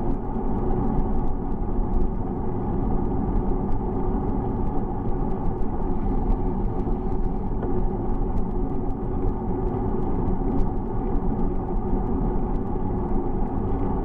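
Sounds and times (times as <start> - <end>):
bicycle tyre and road noise: 0.0 - 14.0
faint ticks: 0.0 - 14.0.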